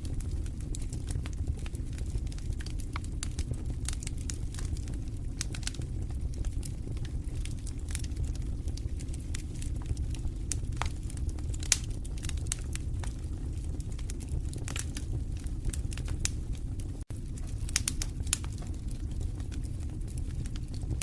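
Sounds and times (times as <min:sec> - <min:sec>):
low rumble of burning logs: 0:00.0 - 0:21.0
wood fire crackling and popping: 0:00.0 - 0:21.0.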